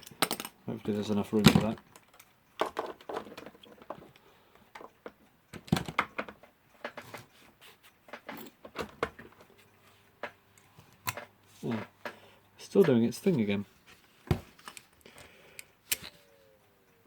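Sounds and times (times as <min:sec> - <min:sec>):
handling clicks and rustles: 0:00.0 - 0:16.4
faint mains hum: 0:00.0 - 0:17.0.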